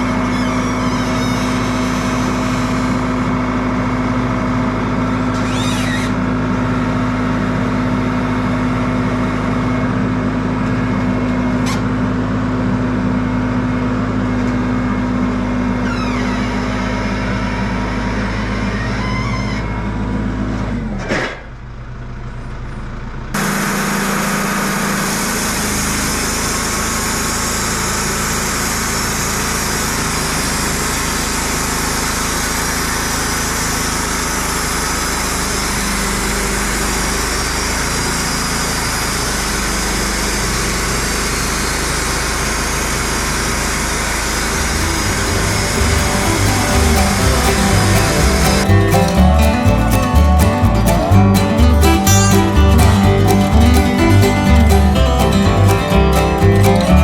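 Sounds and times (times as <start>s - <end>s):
sawmill engine running: 0.0s - 19.2s, 23.0s - 57.0s.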